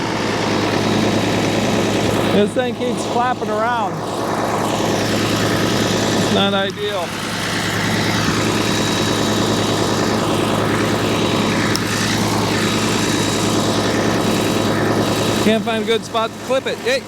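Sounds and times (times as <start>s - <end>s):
constant low hum: 0.0s - 17.0s
diesel engines idling: 0.0s - 17.0s.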